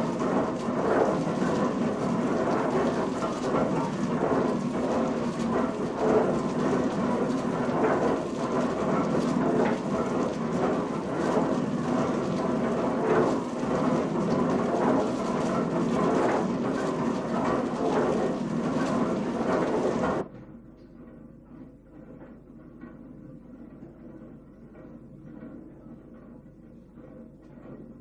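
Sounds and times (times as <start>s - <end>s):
mill machinery rumble: 0.0s - 28.0s.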